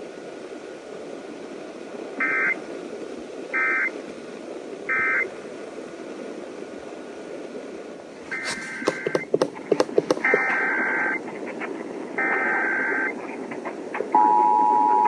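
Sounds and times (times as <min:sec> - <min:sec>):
broadcast hiss: 0:00.0 - 0:15.0.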